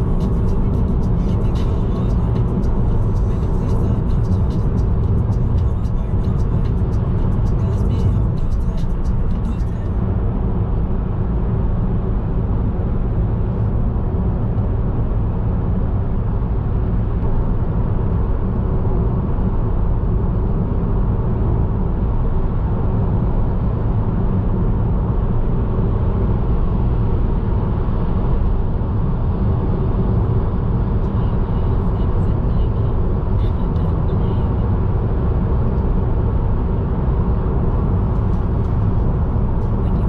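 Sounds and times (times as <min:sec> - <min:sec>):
vehicle road and engine rumble: 0:00.0 - 0:40.0.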